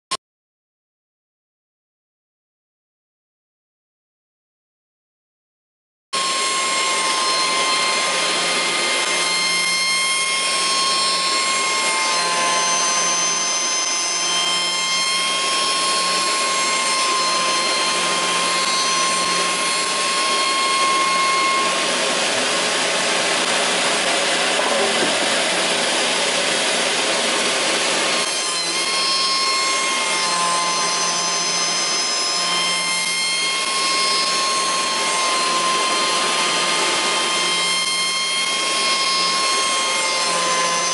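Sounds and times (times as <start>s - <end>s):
wood shaper machine whine: 6.2s - 40.9s.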